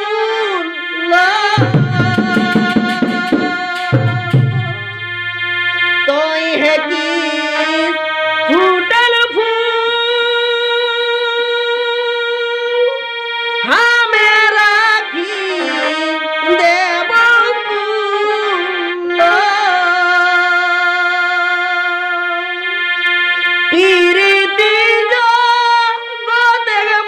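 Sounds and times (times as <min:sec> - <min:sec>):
folk melody with held notes: 0:00.0 - 0:27.0.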